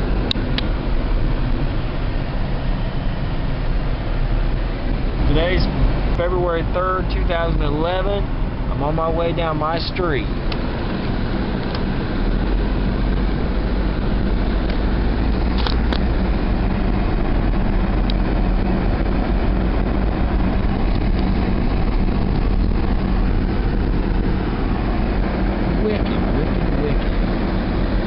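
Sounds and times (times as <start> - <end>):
car engine and road hum: 0.0 - 28.0.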